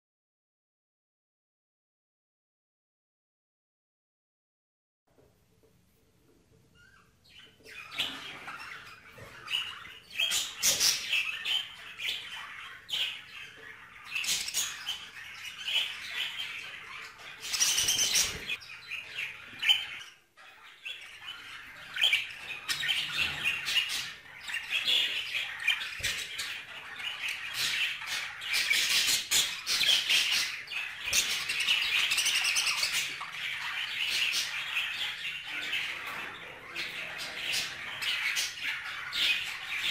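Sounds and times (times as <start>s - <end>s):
budgerigars chattering and chirping: 6.7s - 39.9s.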